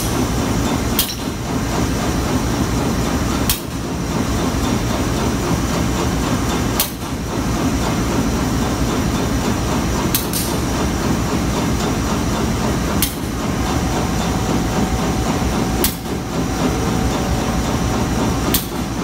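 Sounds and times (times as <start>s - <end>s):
standing train low rumble: 0.0s - 19.0s.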